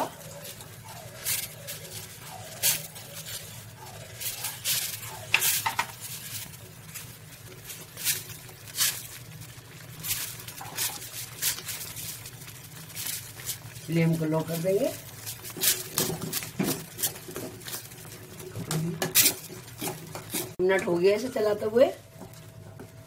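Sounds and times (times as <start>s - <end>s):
ladle scraping metal pot: 0.0s - 9.2s, 9.9s - 20.6s.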